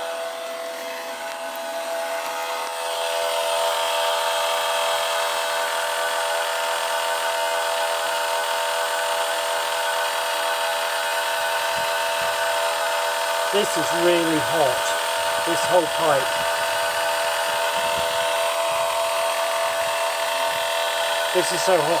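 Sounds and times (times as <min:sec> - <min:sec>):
electric car charging whine: 0:00.0 - 0:22.0.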